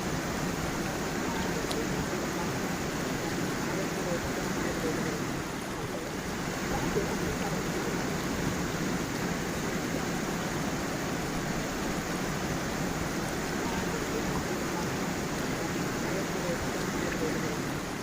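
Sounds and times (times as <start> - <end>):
stream babbling over stones: 0.0 - 18.0.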